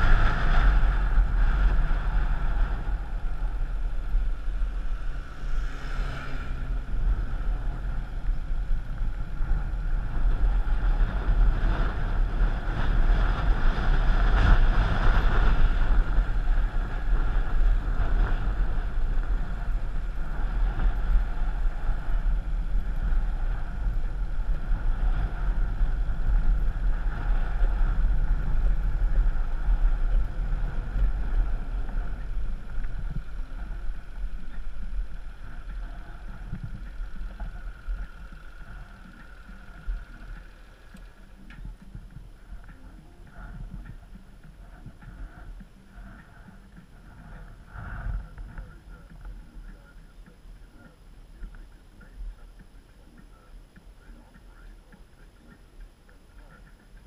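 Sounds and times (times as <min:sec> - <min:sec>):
road rumble: 0:00.0 - 0:57.0
vehicle engine drone: 0:00.0 - 0:57.0
wind buffeting microphone: 0:00.0 - 0:57.0.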